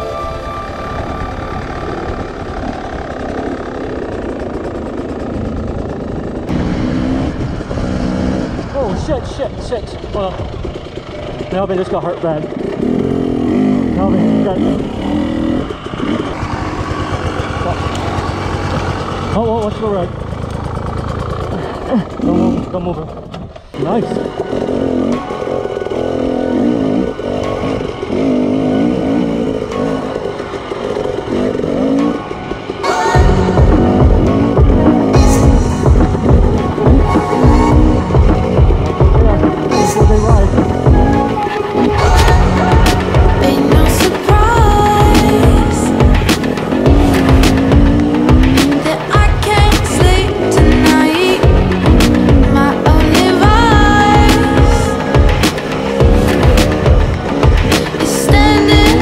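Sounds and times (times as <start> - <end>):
dirt bike engine running: 0.2 - 59.0.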